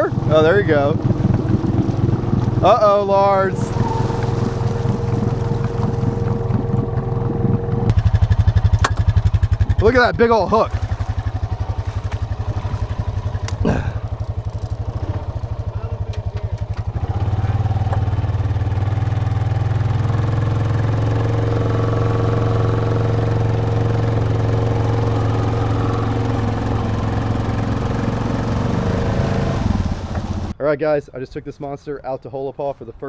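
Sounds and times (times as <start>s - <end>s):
atv engine chugging: 0.0s - 30.6s.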